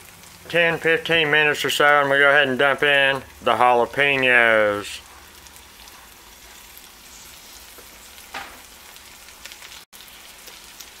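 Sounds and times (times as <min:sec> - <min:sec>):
onions sizzling in a skillet: 0:00.0 - 0:11.0.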